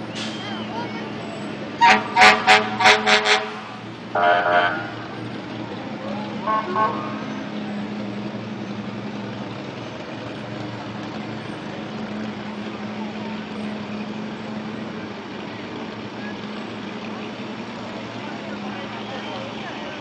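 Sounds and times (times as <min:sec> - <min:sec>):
street noise: 0:00.0 - 0:20.0
vehicle engine running: 0:00.0 - 0:20.0.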